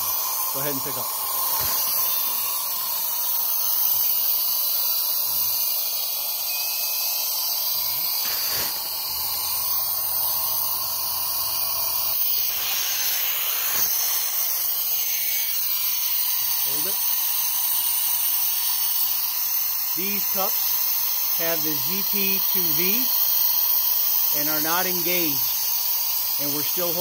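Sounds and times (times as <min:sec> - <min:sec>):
high hiss of exhausting air: 0:00.0 - 0:27.0.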